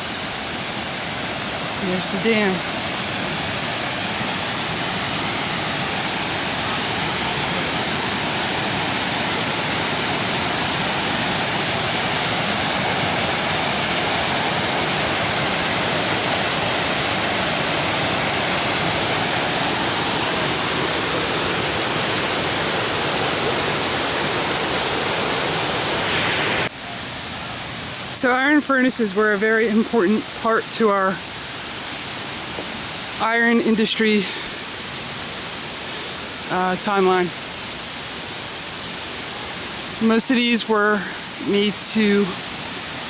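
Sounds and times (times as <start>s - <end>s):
water rushing over spillway: 0.0s - 43.0s.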